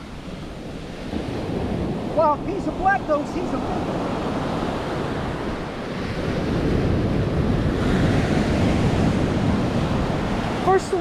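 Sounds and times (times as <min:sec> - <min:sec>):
ocean surf washing ashore: 0:00.0 - 0:11.0
wind buffeting microphone: 0:00.0 - 0:11.0.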